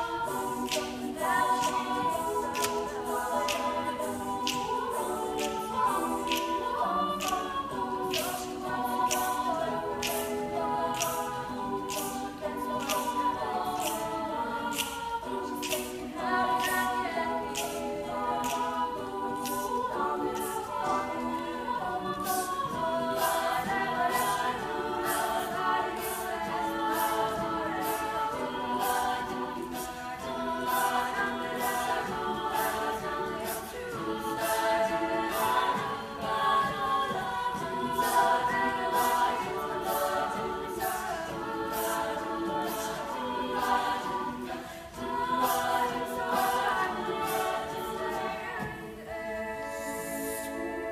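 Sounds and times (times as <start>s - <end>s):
crisp percussive beat: 0.0s - 49.0s
vocal group singing in harmony: 0.0s - 50.9s.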